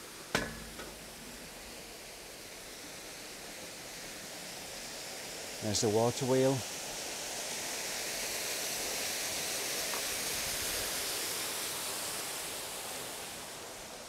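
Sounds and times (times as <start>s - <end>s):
water rushing at a water wheel: 0.0s - 14.0s.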